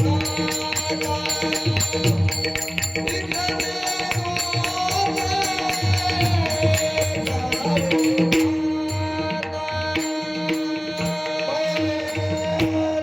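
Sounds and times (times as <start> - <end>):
steady percussion: 0.0 - 13.0.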